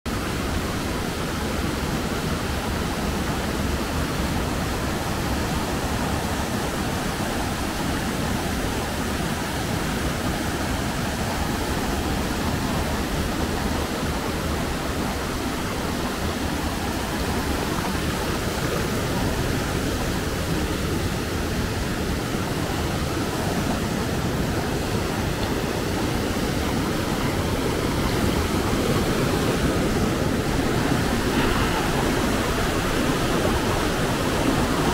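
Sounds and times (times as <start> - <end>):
stream rushing over boulders: 0.1 - 34.9.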